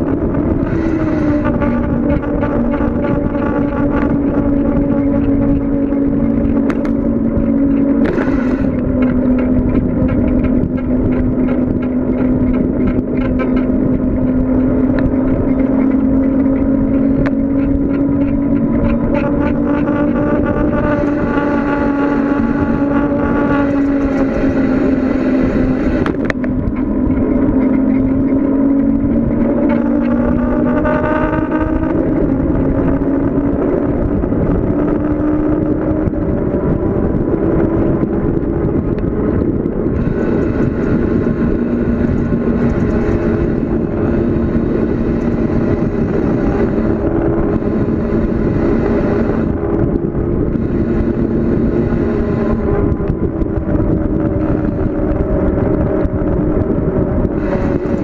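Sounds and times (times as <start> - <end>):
humming tone: 0.0 - 58.0
wind and road noise: 0.0 - 58.0.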